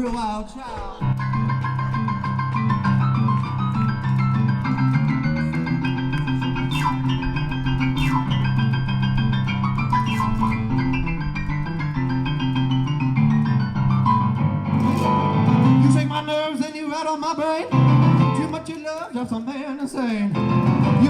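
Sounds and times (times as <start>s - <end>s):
rock and roll band with piano: 0.8s - 21.0s.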